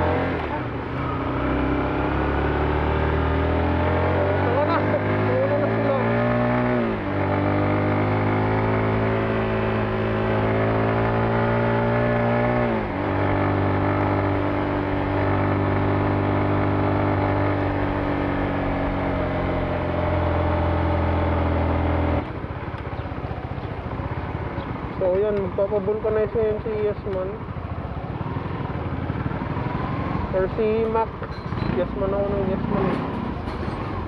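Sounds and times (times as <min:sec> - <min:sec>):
scooter engine running: 0:00.0 - 0:34.0.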